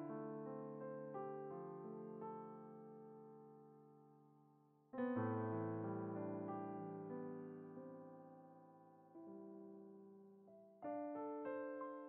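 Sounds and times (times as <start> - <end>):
slow keyboard music: 0.0 - 12.0.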